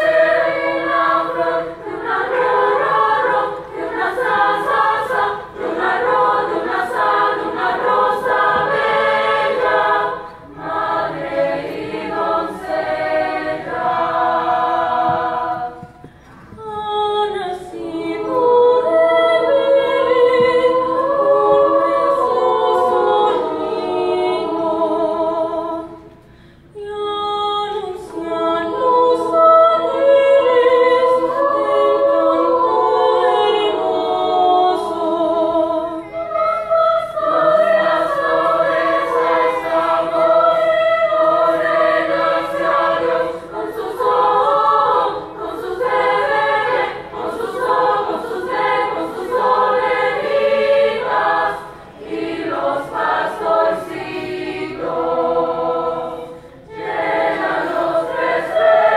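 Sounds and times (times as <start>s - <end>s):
mixed choir singing: 0.0s - 26.2s, 27.6s - 58.9s.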